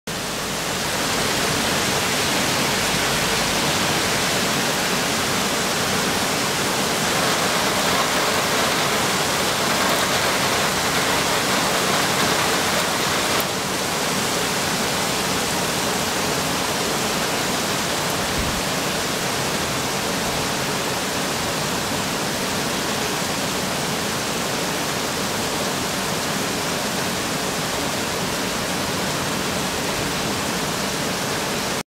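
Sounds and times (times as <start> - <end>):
heavy rain on a metal roof: 0.1 - 31.8.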